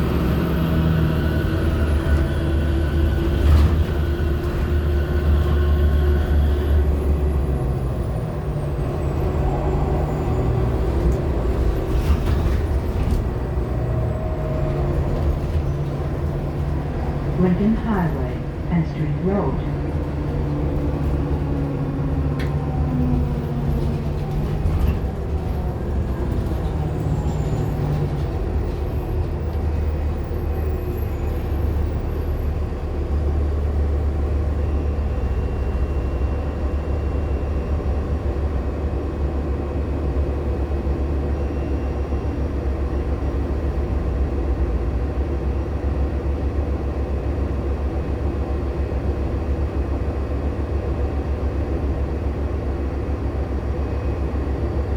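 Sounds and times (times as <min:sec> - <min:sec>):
bus engine drone: 0:00.0 - 0:54.9
road noise: 0:00.0 - 0:54.9.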